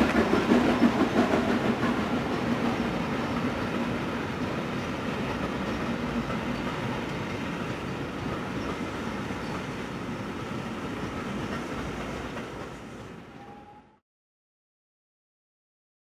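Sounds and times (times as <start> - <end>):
train wheels rumbling on rails: 0.0 - 13.9.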